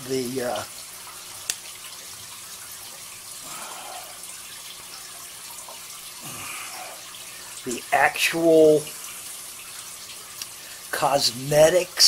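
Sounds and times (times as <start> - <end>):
running water hissing: 0.0 - 12.0.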